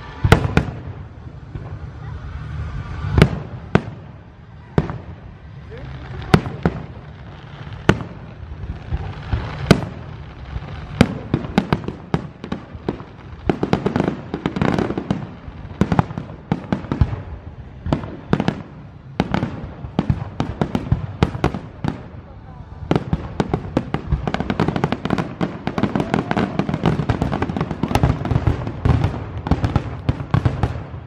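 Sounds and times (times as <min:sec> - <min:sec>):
firework crackle: 0:00.0 - 0:31.0.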